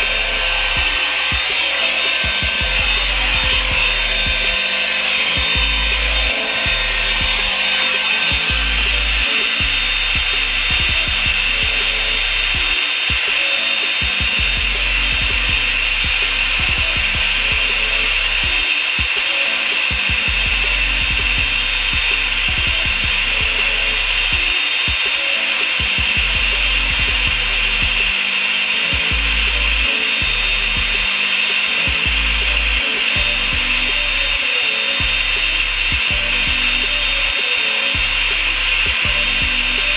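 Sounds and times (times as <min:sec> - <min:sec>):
blow dryer running: 0:00.0 - 0:39.9.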